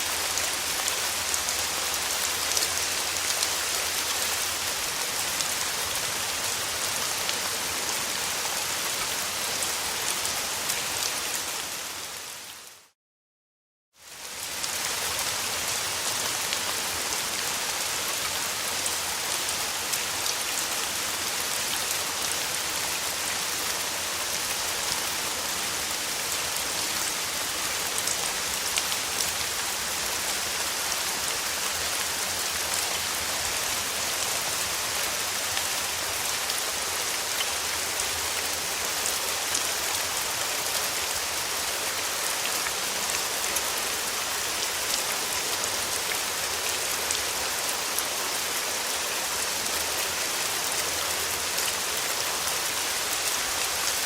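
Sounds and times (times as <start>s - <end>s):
rain falling on a surface: 0.0s - 13.0s, 14.0s - 54.0s.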